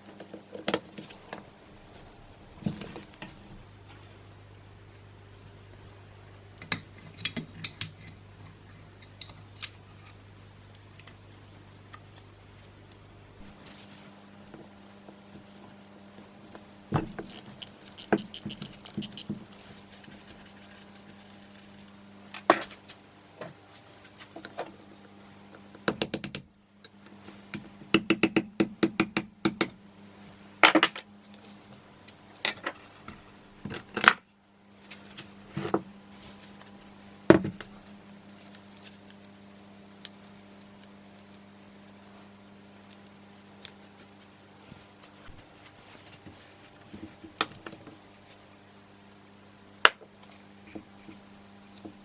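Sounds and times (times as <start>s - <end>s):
steady low hum: 0.0s - 6.5s, 9.8s - 52.0s.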